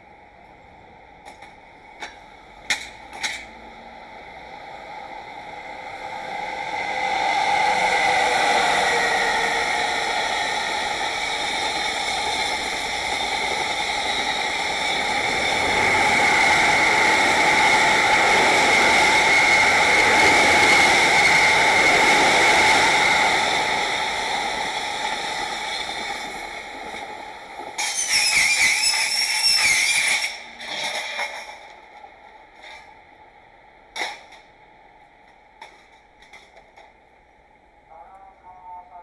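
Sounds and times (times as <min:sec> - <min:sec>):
freight train wagons rolling on rails: 0:00.0 - 0:37.4
electric train passing: 0:00.0 - 0:39.0.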